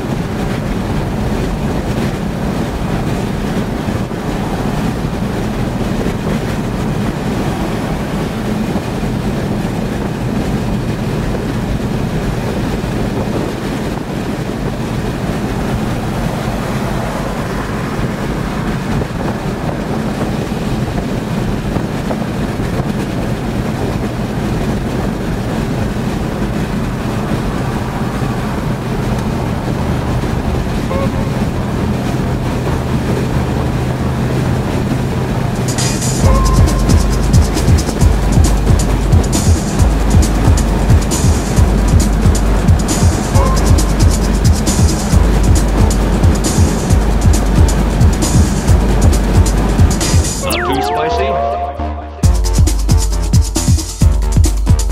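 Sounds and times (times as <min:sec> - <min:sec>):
engine hum inside a vehicle: 0:00.0 - 0:54.9
road and wind noise: 0:00.0 - 0:54.9.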